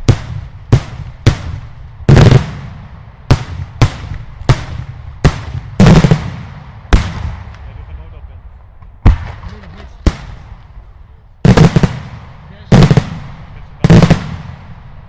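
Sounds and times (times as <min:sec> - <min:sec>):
fireworks exploding: 0:00.0 - 0:08.0, 0:08.8 - 0:10.8, 0:11.4 - 0:15.0
heavy fireworks blasts: 0:00.0 - 0:08.3, 0:09.0 - 0:15.0.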